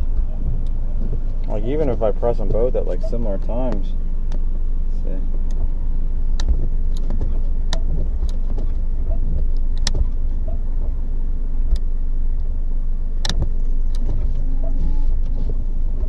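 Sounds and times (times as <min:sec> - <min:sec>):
sharp clicks of wiper controls: 0:00.0 - 0:04.6, 0:05.3 - 0:16.0
car engine idling: 0:00.0 - 0:16.0.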